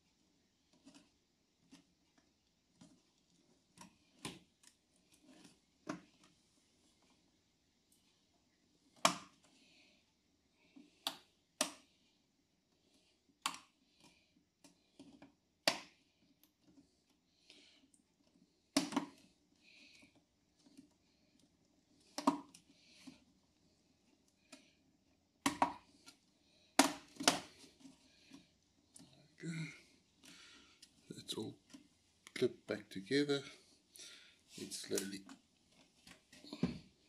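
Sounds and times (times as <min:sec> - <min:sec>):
plastic handling and scraping: 0:00.0 - 0:09.9, 0:12.6 - 0:37.0.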